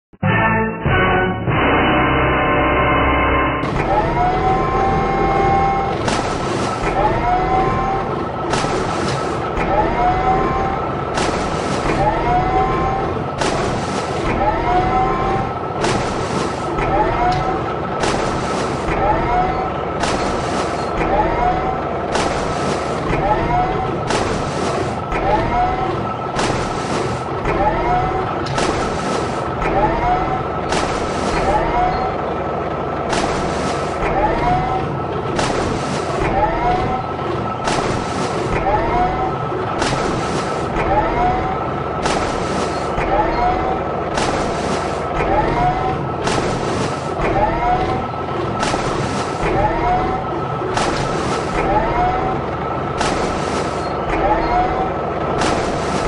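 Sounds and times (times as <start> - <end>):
heavy vehicle engine drone: 0.3 - 56.0
short rising whines: 3.6 - 56.0
steady hum: 3.6 - 56.0.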